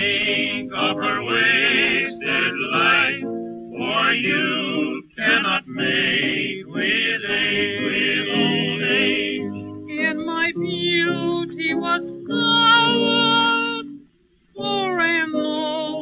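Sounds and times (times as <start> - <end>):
voices singing with vibrato: 0.0 - 14.0, 14.6 - 16.0
piano accompaniment: 0.0 - 16.0.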